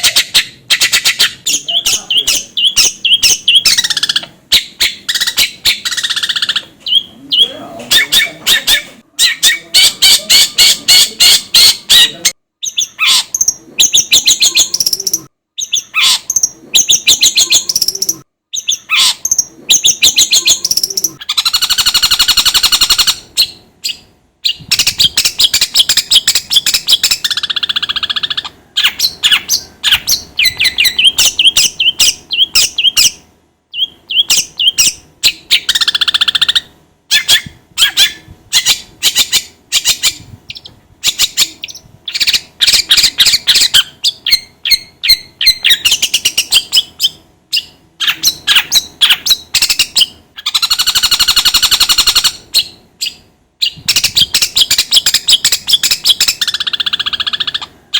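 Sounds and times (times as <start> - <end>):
bird chattering song: 0.0 - 57.8
bird harsh rasping calls: 0.0 - 57.8.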